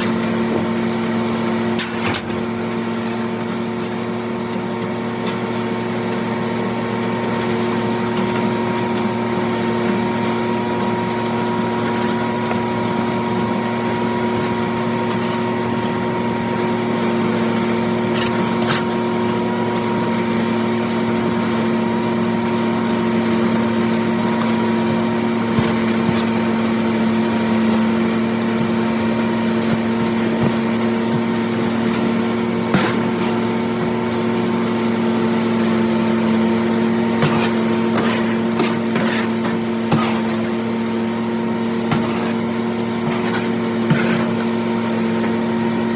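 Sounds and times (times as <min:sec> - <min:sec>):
grinder mixer grinding corn: 0:00.0 - 0:45.9
tractor diesel engine running: 0:05.8 - 0:45.6.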